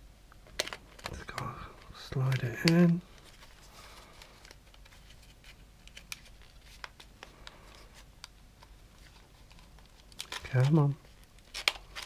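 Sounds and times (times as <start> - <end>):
plastic parts clicking and scratching: 0.4 - 7.8, 8.6 - 12.0.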